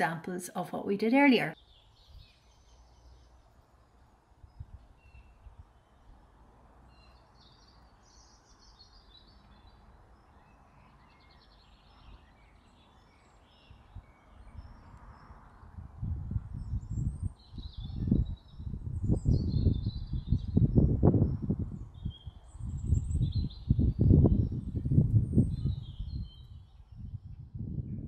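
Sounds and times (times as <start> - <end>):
faint birdsong: 0.0 - 28.0.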